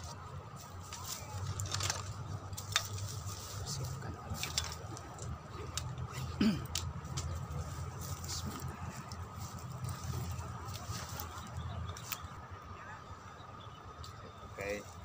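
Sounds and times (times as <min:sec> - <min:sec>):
rustling in dry grass: 0:00.0 - 0:12.5
steady low rumble: 0:00.0 - 0:15.0.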